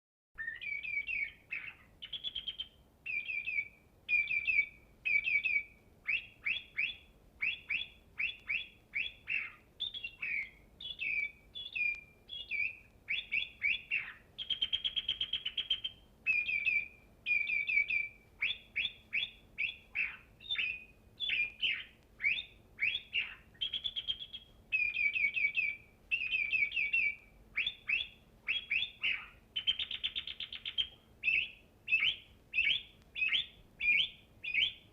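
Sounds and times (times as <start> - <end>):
buzzy bird trills: 0.4 - 34.9
songbird chirping and whistling: 0.4 - 34.9.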